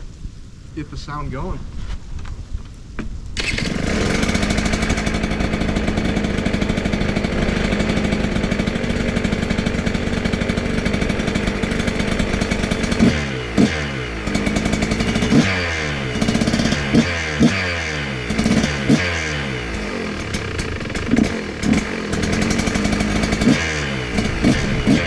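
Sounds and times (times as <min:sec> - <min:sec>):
two-stroke motorcycle engine revving: 0:03.4 - 0:25.0.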